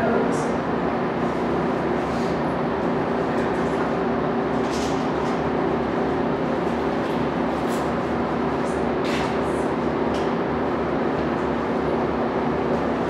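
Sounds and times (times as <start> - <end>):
train locomotive humming at idle: 0.0 - 13.0.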